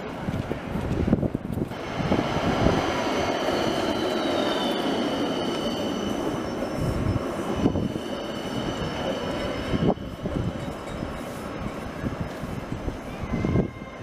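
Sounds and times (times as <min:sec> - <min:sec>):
tram wheels rumbling on rail: 0:00.0 - 0:14.0
high wheel squeal: 0:02.6 - 0:14.0.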